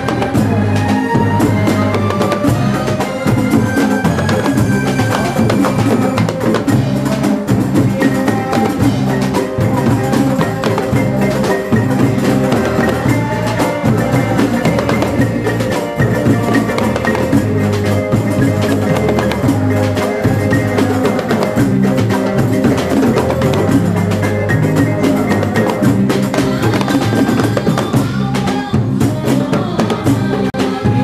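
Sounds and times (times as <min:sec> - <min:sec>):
electric guitars: 0:00.0 - 0:31.0
frame drums beat: 0:00.0 - 0:31.0
men singing: 0:00.0 - 0:31.0.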